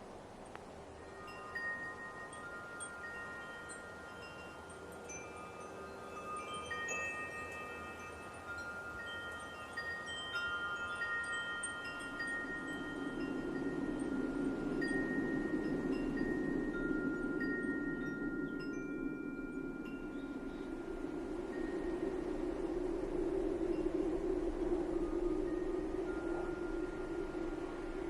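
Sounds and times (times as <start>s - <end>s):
soft hiss of light wind: 0.0s - 28.0s
wind chimes ringing: 0.8s - 28.0s.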